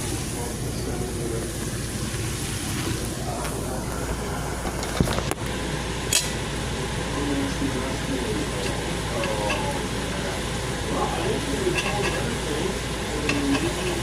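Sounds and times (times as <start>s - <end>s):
kitchen cooking hiss: 0.0s - 14.0s.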